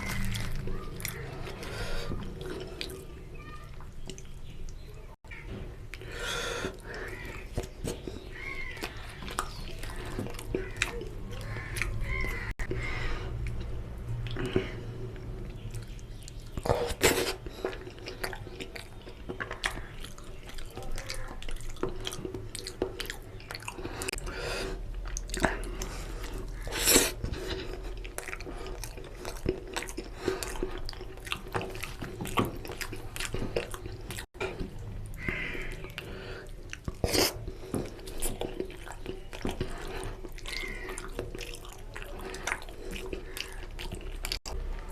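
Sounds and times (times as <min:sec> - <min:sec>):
wet chewing and mouth smacks: 0:00.0 - 0:03.1, 0:03.7 - 0:05.1, 0:05.8 - 0:44.9.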